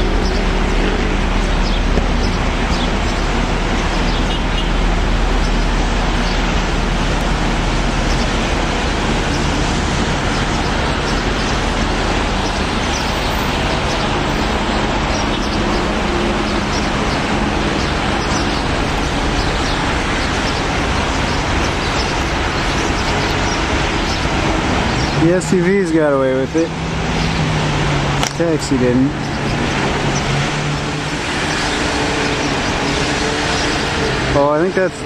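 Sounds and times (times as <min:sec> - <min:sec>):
car engines humming: 0:00.0 - 0:35.0.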